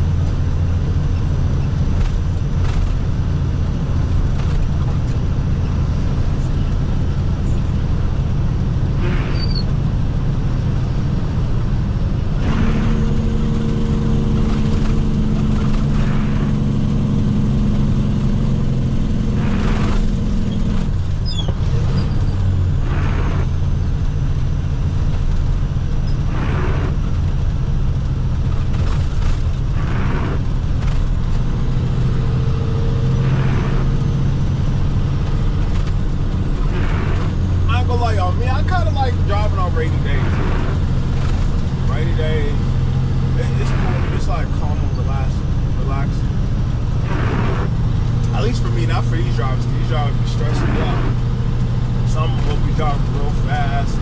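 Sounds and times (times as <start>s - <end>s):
diesel engine drone from cab: 0.0s - 54.0s.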